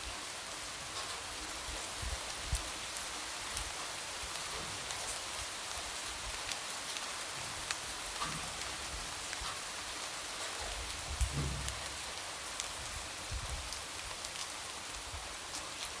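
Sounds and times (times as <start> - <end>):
light rain falling: 0.0 - 16.0.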